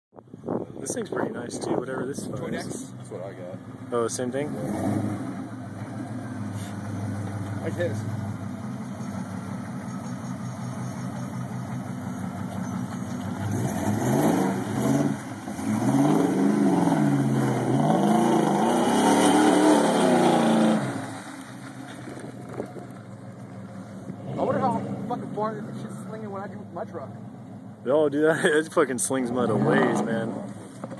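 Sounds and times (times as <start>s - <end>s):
truck engine idling and revving: 0.1s - 30.9s.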